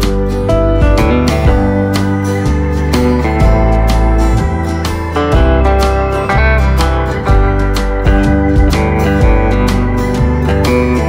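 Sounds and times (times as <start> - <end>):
steady bass: 0.0 - 11.0
strummed guitar chords: 0.0 - 11.0.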